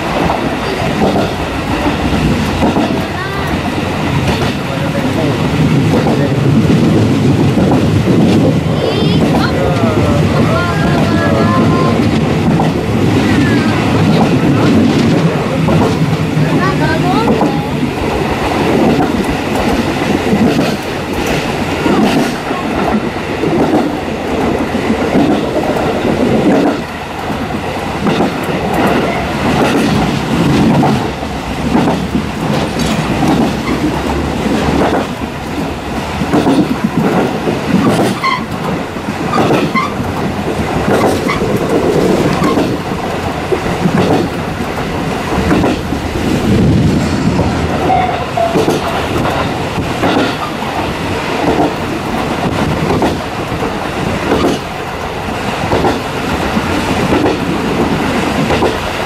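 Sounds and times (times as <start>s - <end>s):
train rolling noise: 0.0s - 59.0s
wheels clickety-clack on rail joints: 0.0s - 59.0s.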